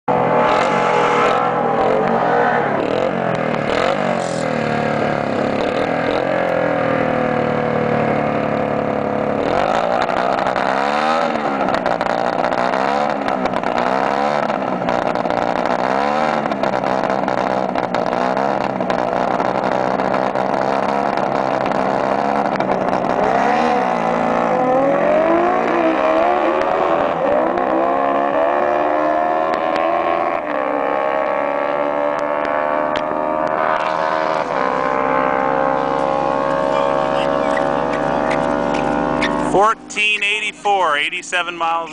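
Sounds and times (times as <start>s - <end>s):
motorcycle engine revving: 0.1s - 41.9s.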